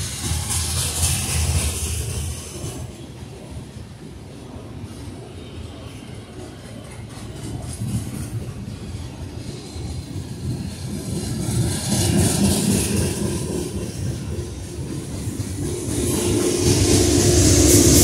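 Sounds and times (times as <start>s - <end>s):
steel wheels rumbling on rails: 0.0s - 18.0s.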